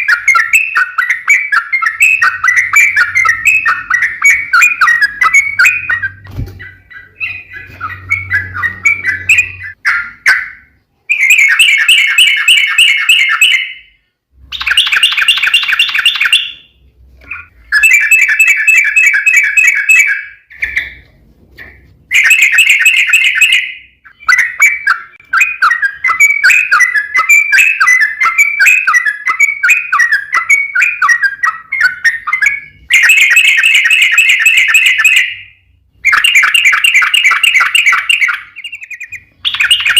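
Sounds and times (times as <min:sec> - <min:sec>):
bird singing bubbly chatter: 0:00.0 - 0:21.0, 0:21.7 - 0:39.9.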